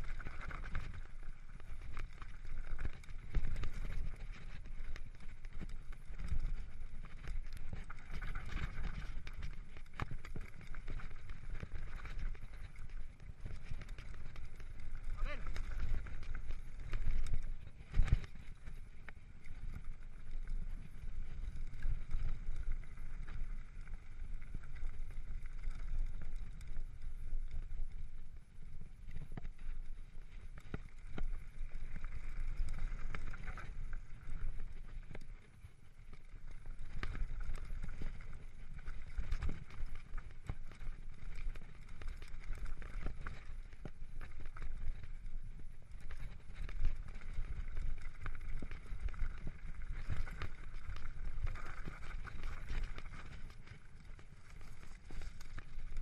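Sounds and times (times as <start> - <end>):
mountain bike rattling on gravel: 0.0 - 56.0.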